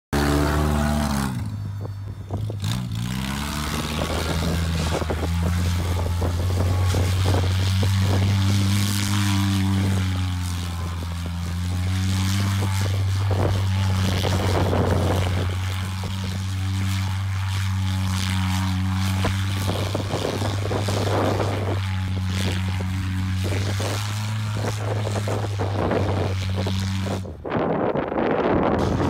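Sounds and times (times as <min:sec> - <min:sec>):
small truck engine revving: 0:00.1 - 0:27.3.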